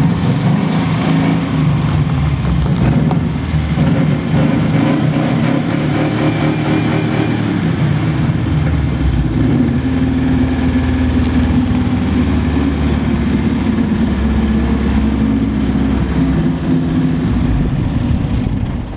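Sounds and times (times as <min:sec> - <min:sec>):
car engine running under load: 0:00.0 - 0:18.9.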